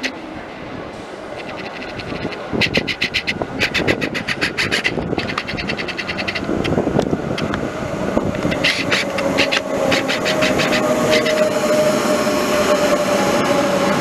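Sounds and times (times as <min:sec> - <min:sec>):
electric train whine: 0:00.0 - 0:14.0
train wheels clicking: 0:01.2 - 0:14.0.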